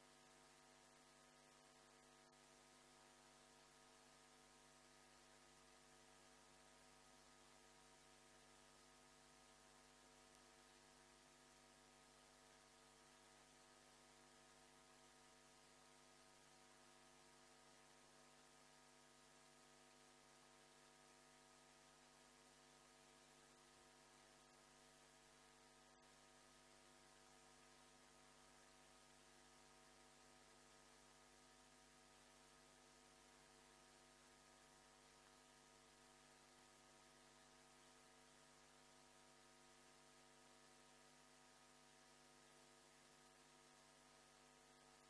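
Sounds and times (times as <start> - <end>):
faint electrical hum: 0.0 - 45.0
low hiss: 0.0 - 45.0.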